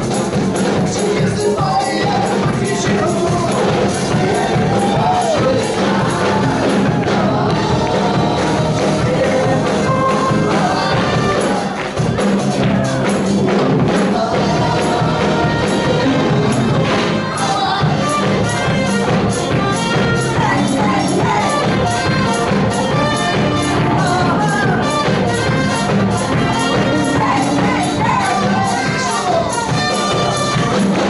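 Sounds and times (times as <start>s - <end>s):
church praise music: 0.0s - 31.0s
people singing: 0.0s - 31.0s.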